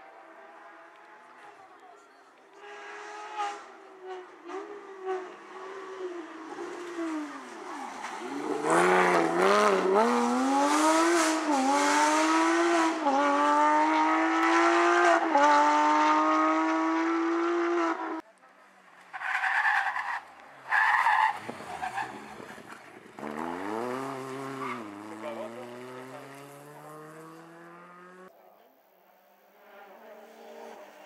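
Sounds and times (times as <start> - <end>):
rally car engine at full throttle: 0.0 - 18.2, 21.3 - 28.3, 29.5 - 31.0.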